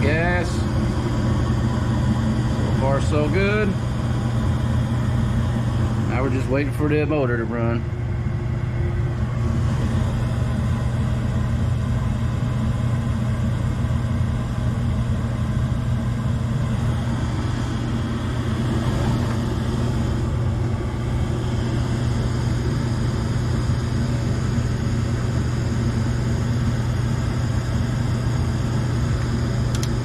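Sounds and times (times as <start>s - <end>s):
gas furnace humming: 0.0s - 30.0s.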